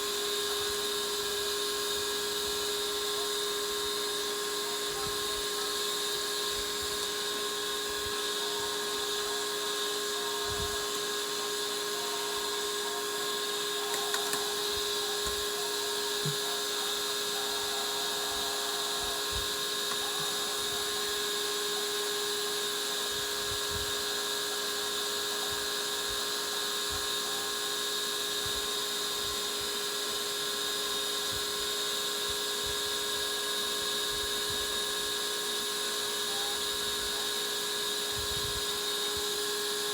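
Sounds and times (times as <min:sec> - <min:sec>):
electric motor whining: 0:00.0 - 0:39.9.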